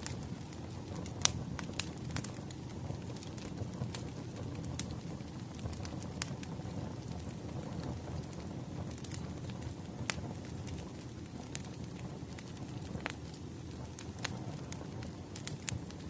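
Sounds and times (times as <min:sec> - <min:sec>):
low rumble of burning logs: 0:00.0 - 0:16.0
wood fire crackling and popping: 0:00.0 - 0:16.0.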